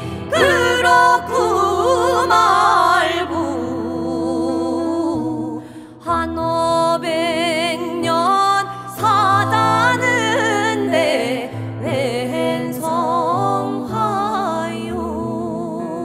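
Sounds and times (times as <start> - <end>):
voices singing folk song: 0.0 - 16.0.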